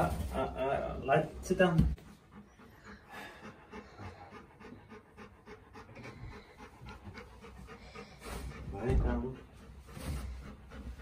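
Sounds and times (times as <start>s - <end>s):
dog panting: 0.1s - 11.0s.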